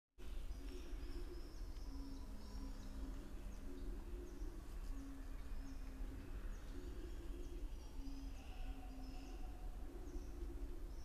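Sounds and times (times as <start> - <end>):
small birds chirping: 0.2 - 11.0
dove cooing: 0.6 - 11.0.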